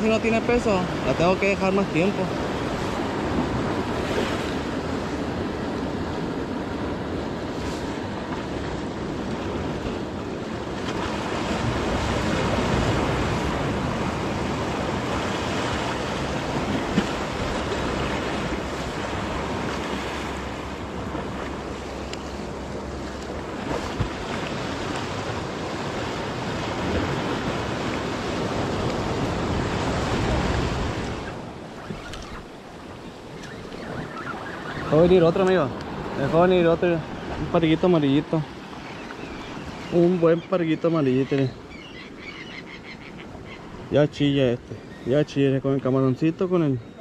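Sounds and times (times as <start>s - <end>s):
wind on microphone: 0.0s - 37.8s
surf breaking on rocks: 0.0s - 38.8s.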